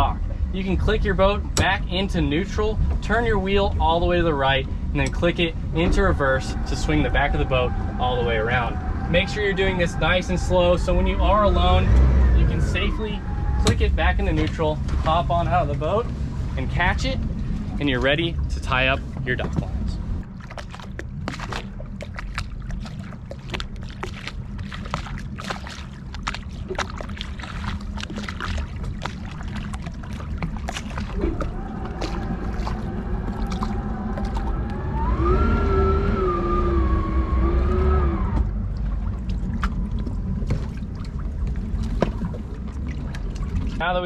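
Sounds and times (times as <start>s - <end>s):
knocks and splashes: 0.0s - 8.0s, 13.5s - 35.4s, 38.2s - 44.0s
engine whine rising in pitch: 0.0s - 26.2s, 27.5s - 44.0s
boat engine rumbling: 0.0s - 44.0s.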